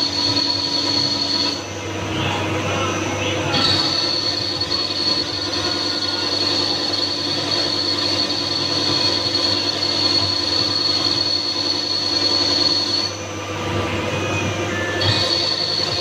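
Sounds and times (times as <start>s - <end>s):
lathe high-pitched whine: 0.0s - 16.0s
lathe low hum: 0.0s - 16.0s.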